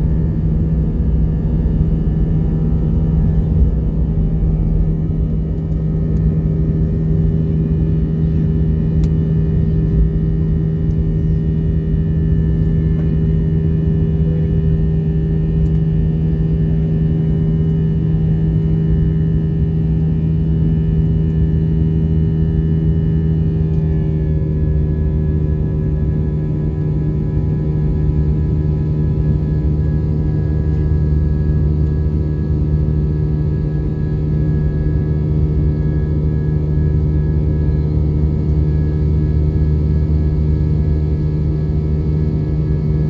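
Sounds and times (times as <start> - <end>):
jet engines droning in cabin: 0.0 - 43.0.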